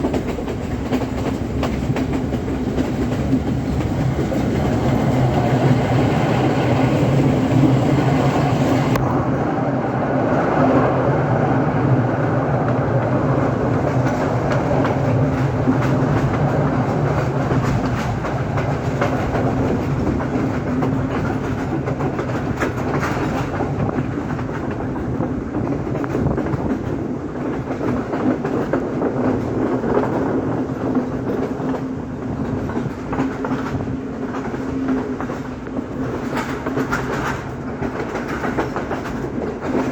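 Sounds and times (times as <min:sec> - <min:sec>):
wheels clicking over rail joints: 0:00.0 - 0:09.2, 0:12.6 - 0:39.9
train rumbling along track: 0:00.0 - 0:39.9.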